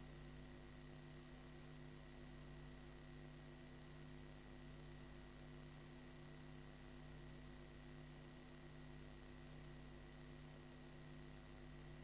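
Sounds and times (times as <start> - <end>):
faint mains hum and hiss: 0.0 - 12.0.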